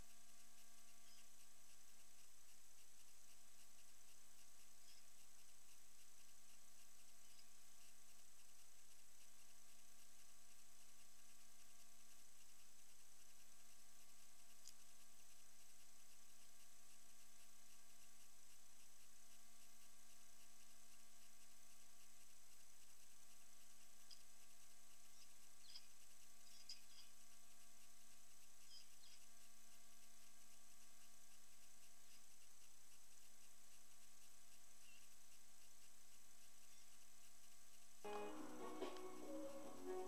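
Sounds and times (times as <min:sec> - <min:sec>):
faint tick: 0:00.0 - 0:38.0
electronic hum and hiss: 0:00.0 - 0:40.0.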